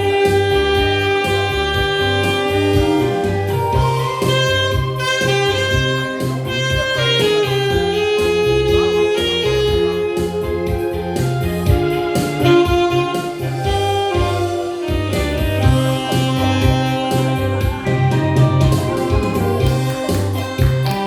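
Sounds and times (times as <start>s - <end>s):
band accompaniment: 0.0s - 21.0s
repeating bass line: 0.0s - 21.0s
saxophone melody: 0.0s - 21.0s.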